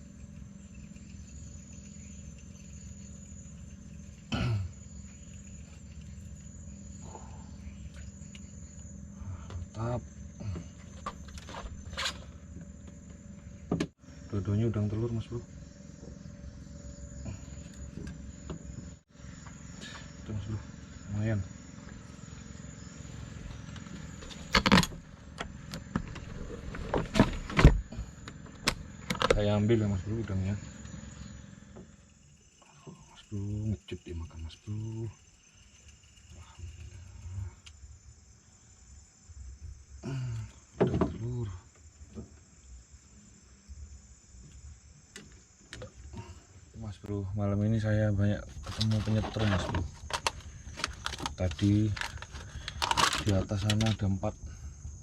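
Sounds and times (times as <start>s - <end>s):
crickets and insects chirring: 0.0s - 55.0s.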